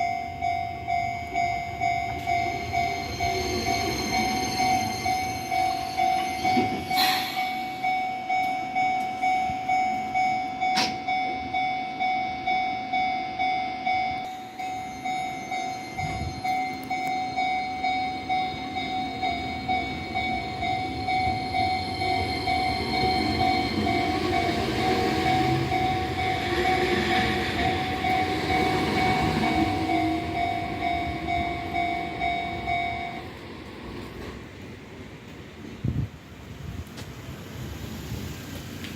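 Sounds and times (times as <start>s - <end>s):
level-crossing alarm dinging: 0.0s - 33.7s
electric train running: 0.0s - 34.4s.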